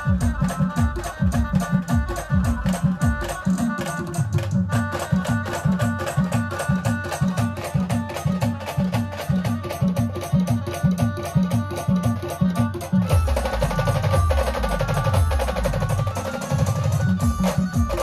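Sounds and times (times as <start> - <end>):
fast folk drum rhythm: 0.0 - 18.0
held melody notes: 0.0 - 18.0.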